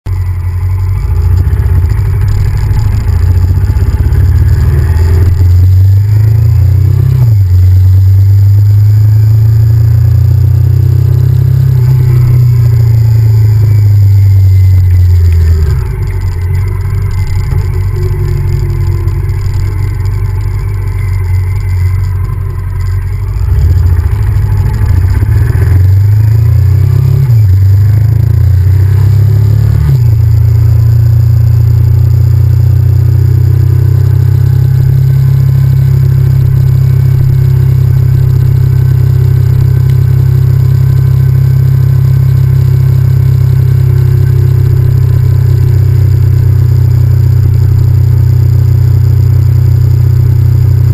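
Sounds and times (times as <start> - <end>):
v-twin motorcycle engine running: 0.1 - 50.9.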